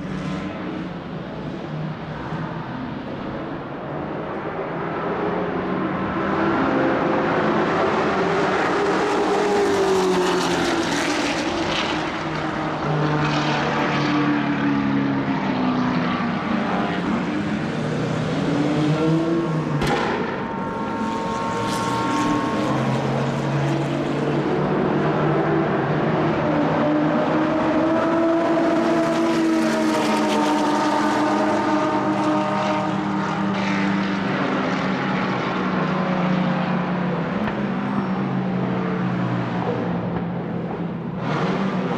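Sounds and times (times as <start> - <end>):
racing car engines revving: 0.0 - 41.9.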